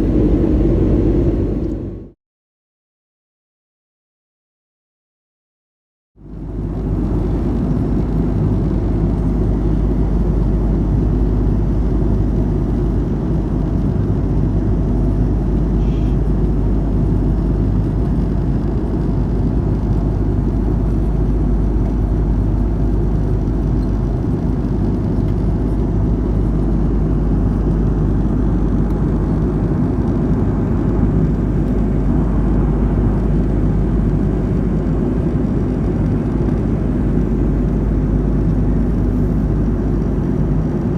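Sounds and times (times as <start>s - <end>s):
airplane engine rumble in cabin: 0.0s - 2.2s, 6.2s - 40.9s.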